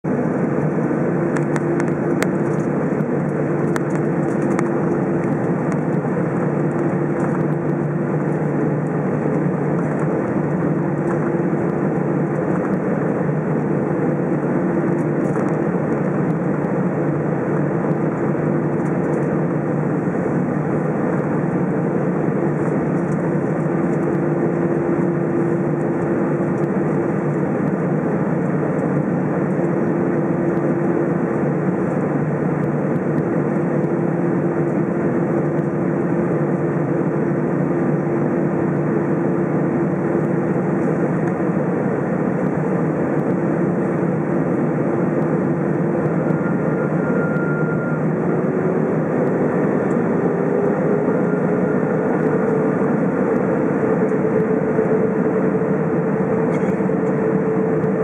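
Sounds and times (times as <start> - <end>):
jet engines humming: 0.0 - 58.0.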